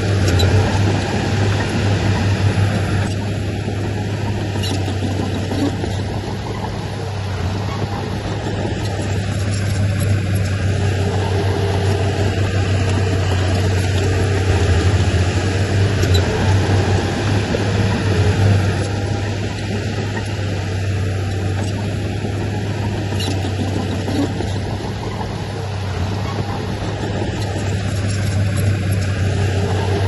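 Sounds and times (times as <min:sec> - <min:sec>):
heavy machine engine drone: 0:00.0 - 0:30.0.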